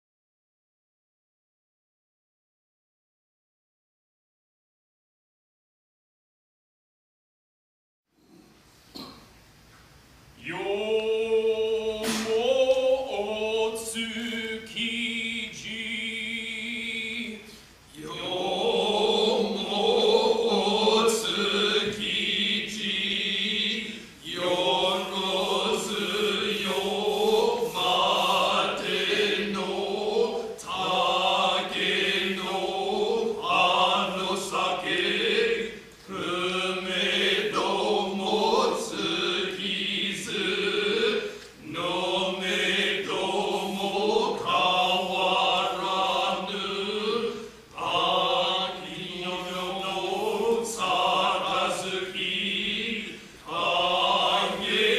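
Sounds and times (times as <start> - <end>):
male chorus chanting: 10.4 - 54.9.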